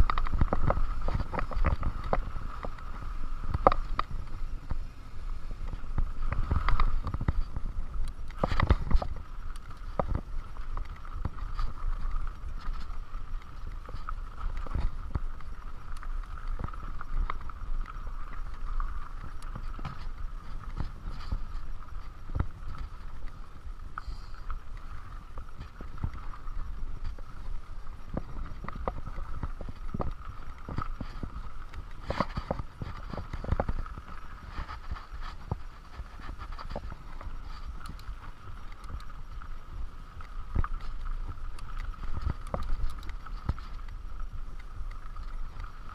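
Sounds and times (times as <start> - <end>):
bike knocking and rattling: 0.0 - 24.4, 25.2 - 45.9
bike tyres rumbling on dirt: 0.0 - 45.9.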